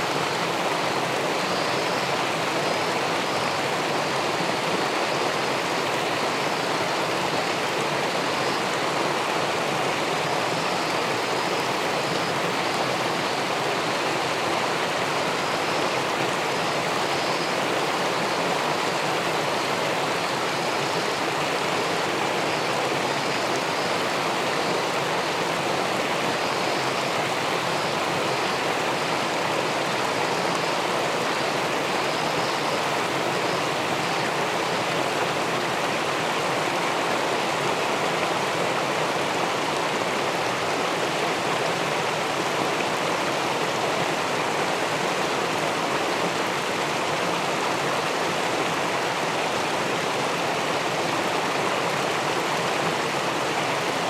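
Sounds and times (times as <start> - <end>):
river water rushing over a weir: 0.0 - 54.0.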